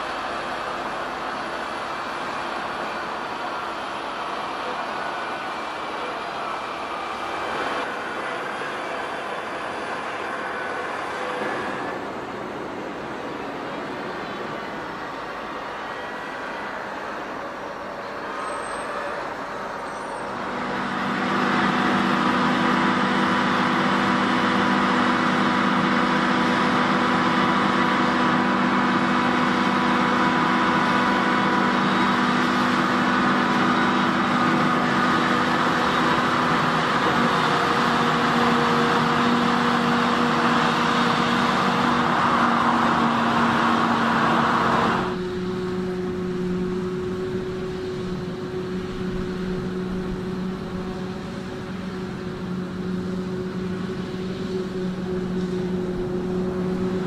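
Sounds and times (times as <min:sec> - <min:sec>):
farm machinery engine drone: 0:00.0 - 0:57.0
loud rushing whir: 0:00.0 - 0:57.0.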